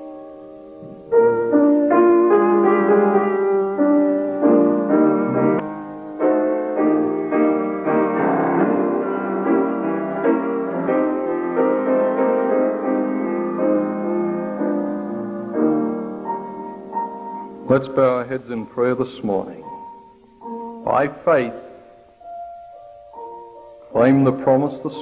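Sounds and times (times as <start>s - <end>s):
slow piano melody: 0.0s - 25.0s.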